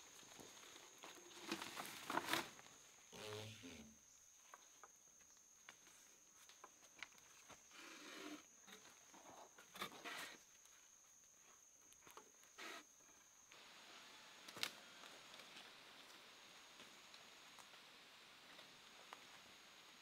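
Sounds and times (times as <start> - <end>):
high insect whine: 0.3 - 20.0.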